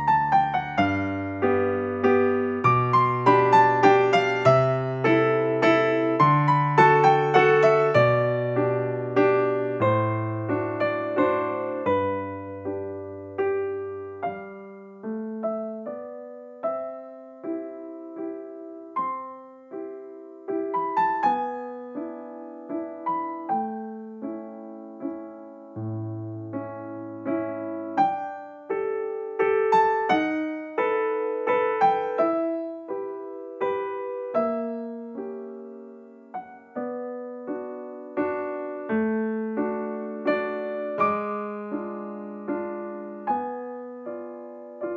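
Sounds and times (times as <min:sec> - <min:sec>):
gentle piano music: 0:00.0 - 0:44.9.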